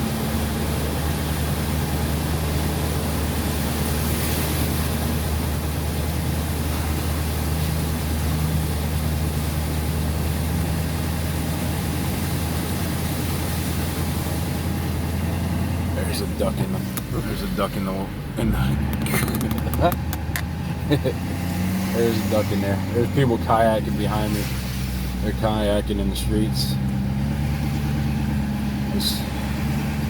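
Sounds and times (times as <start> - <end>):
pickup truck engine running: 0.0 - 30.0.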